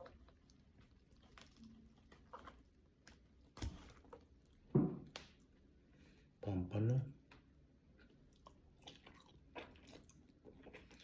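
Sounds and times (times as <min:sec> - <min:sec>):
person chewing and smacking: 0:00.0 - 0:05.6, 0:07.3 - 0:11.0.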